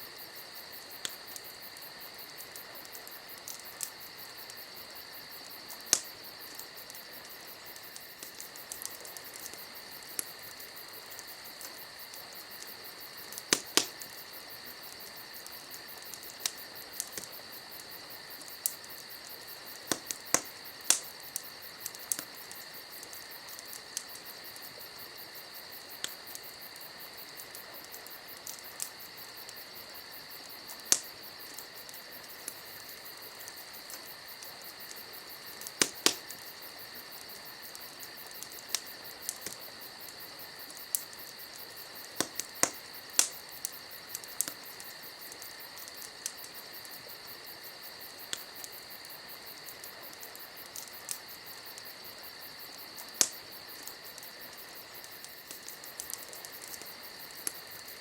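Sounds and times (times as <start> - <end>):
crickets chirping: 0.0 - 58.0
campfire crackling and popping: 0.1 - 58.0.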